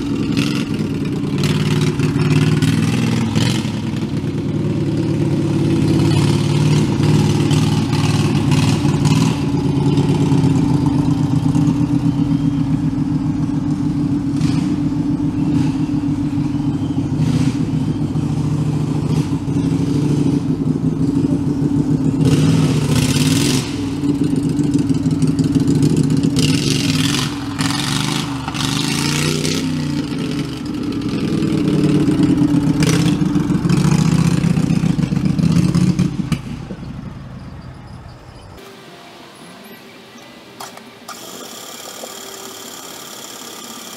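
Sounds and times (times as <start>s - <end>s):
tractor engine revving: 0.0s - 43.9s.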